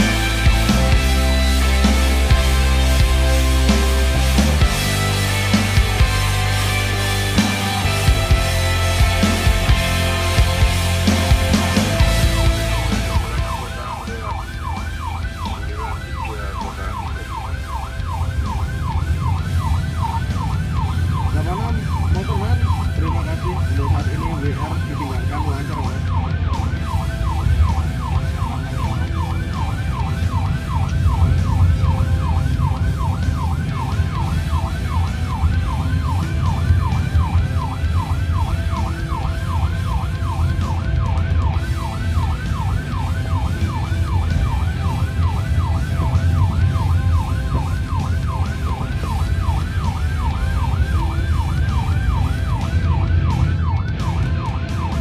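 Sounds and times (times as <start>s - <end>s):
low engine and road rumble: 0.0s - 55.0s
police siren yelp: 0.0s - 55.0s.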